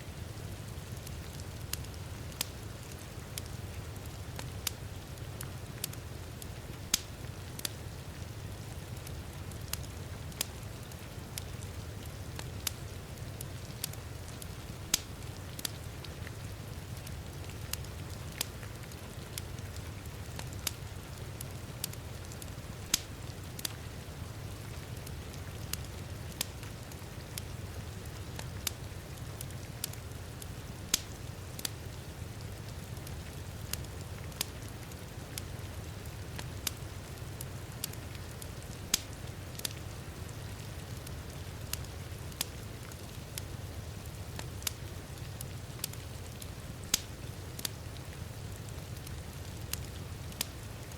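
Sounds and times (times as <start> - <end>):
wood fire crackling and popping: 0.1 - 50.9.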